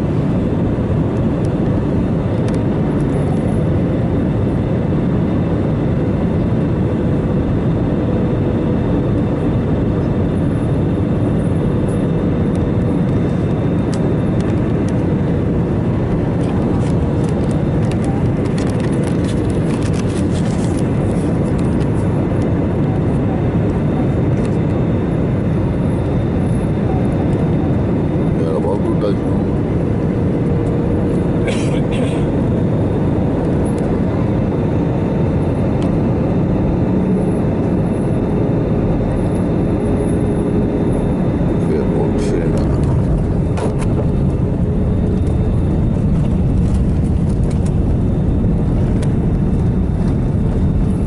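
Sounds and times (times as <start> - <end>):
jet engine and airflow in cabin: 0.0 - 51.0.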